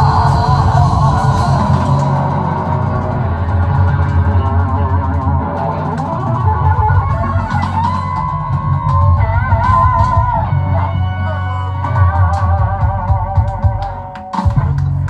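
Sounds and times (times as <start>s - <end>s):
lead guitar vibrato notes: 0.0s - 13.5s
rock music: 0.0s - 15.0s.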